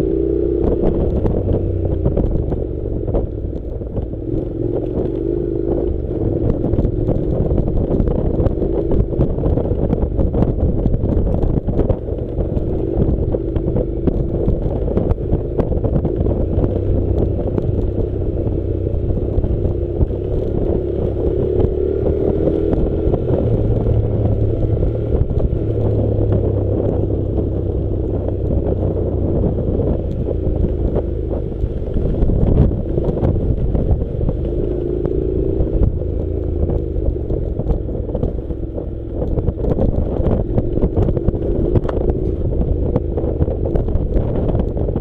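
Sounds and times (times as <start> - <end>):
motorcycle engine running at low revs: 0.0 - 45.0.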